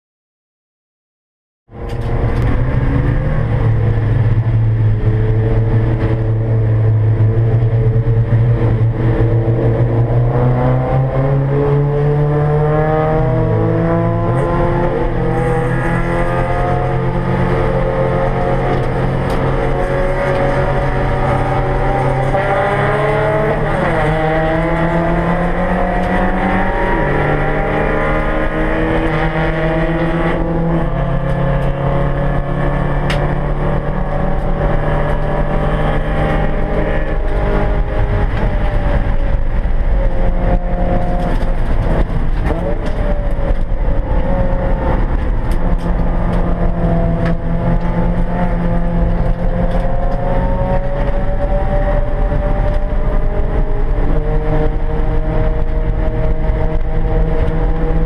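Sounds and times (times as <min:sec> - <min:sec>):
race car engine accelerating: 0:01.7 - 0:58.0.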